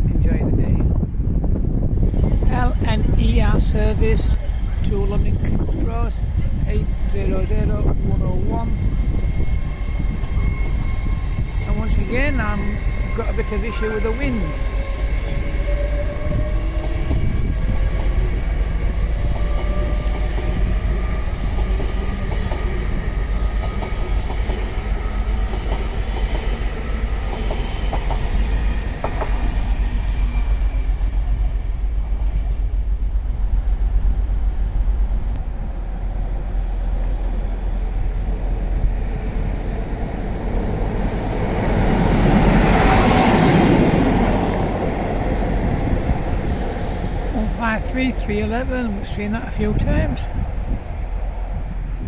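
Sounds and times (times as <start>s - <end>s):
train rushing past: 0.0s - 52.0s
wind rumbling on microphone: 0.0s - 52.0s.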